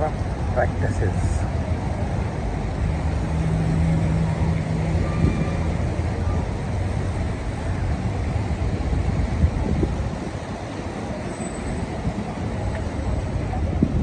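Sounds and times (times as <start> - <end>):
engine hum: 0.0 - 14.0
traffic rumble: 0.0 - 14.0.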